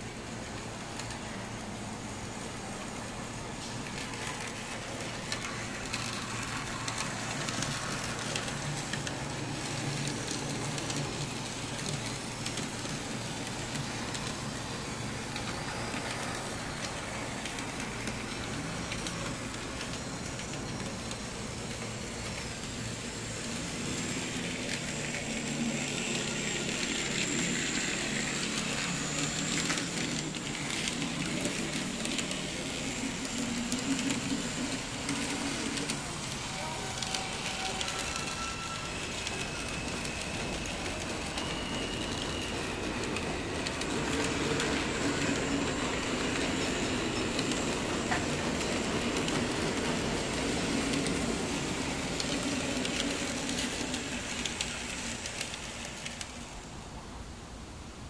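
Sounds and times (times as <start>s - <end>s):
faint high whine: 0.0s - 58.0s
model trams running on track: 0.0s - 58.0s.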